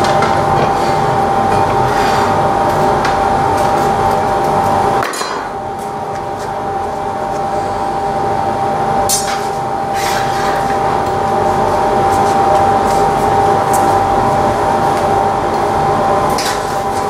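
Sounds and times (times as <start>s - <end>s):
workshop furnace roar: 0.0s - 17.0s.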